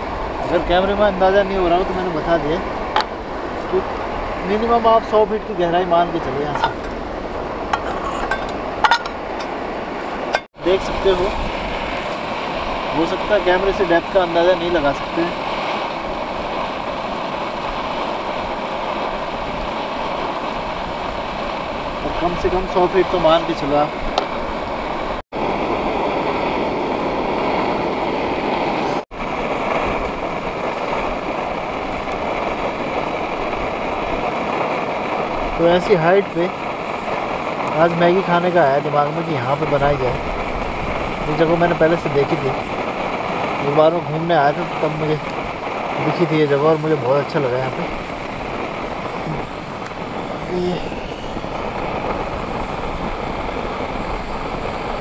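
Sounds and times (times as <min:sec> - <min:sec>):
strong wind blowing: 0:00.0 - 0:55.0.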